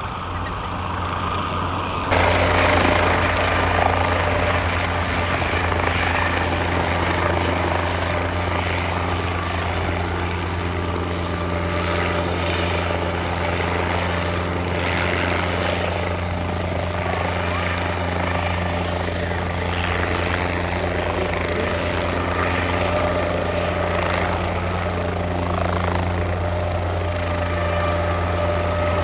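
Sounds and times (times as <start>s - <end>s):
helicopter engine noise: 0.0s - 29.0s
helicopter rotor hum: 0.0s - 29.0s.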